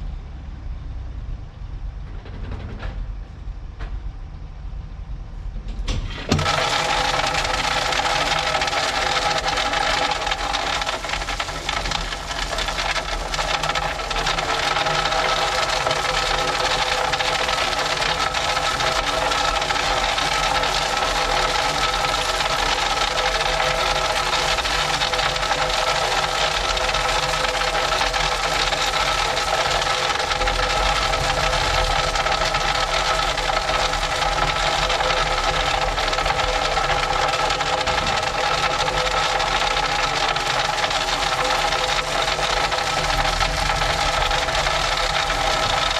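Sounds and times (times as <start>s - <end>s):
track maintenance machine running: 5.6s - 45.9s
steady whine: 6.1s - 45.9s
rattling: 6.2s - 45.9s.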